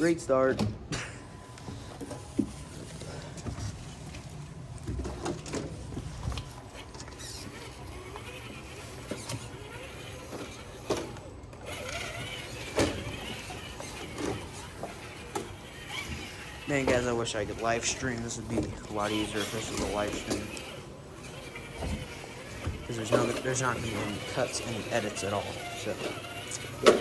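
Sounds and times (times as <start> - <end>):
small electric motor whirring: 1.2 - 27.0.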